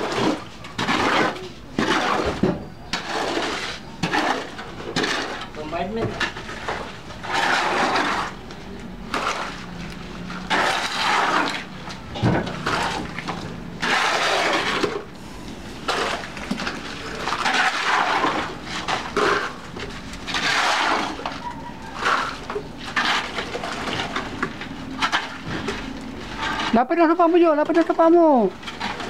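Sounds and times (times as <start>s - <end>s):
shovel scraping wet cement: 0.0s - 8.5s, 9.1s - 29.0s.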